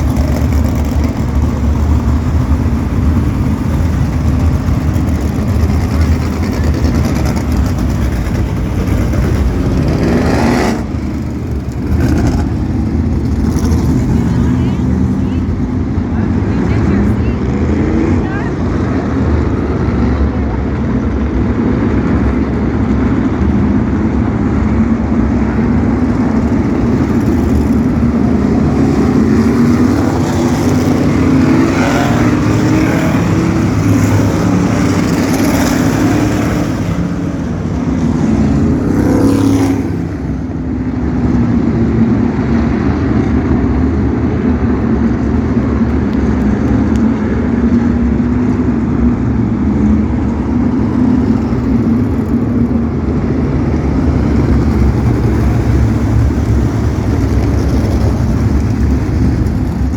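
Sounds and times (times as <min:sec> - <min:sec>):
race car engines running hard: 0:00.0 - 0:59.9.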